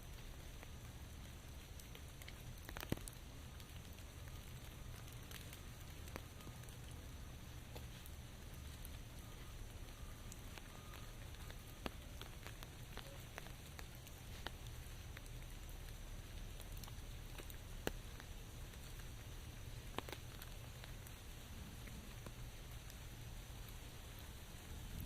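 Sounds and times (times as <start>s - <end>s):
rain hiss: 0.0s - 25.0s
single raindrops ticking: 0.0s - 25.0s.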